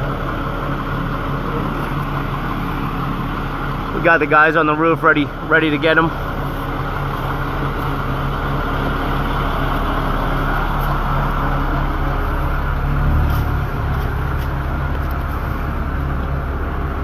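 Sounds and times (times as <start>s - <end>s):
crane truck engine droning: 0.0s - 17.0s.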